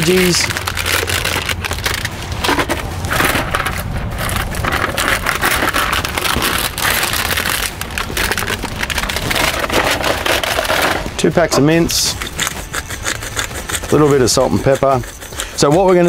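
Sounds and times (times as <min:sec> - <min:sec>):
plastic trays and film crinkling: 0:00.0 - 0:16.0.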